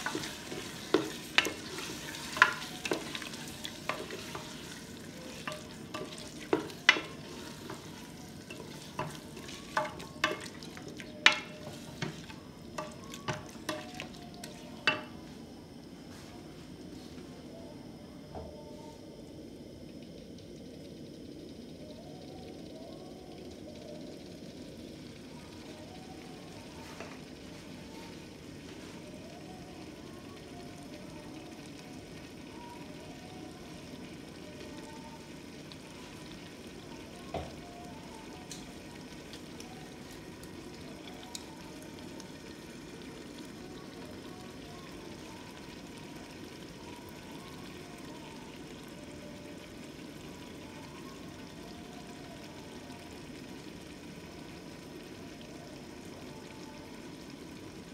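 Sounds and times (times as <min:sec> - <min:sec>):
curry sizzling in a pot: 0:00.0 - 0:16.3, 0:19.2 - 0:57.9.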